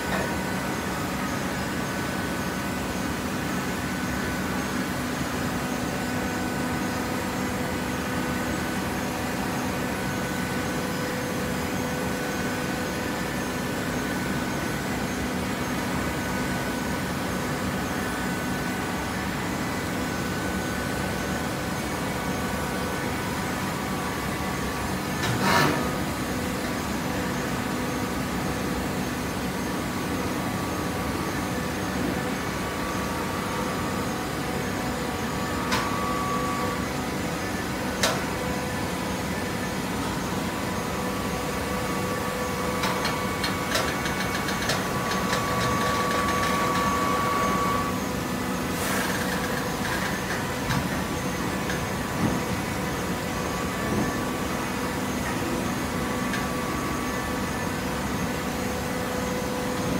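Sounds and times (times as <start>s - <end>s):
hydraulic baler drone: 0.0s - 59.9s.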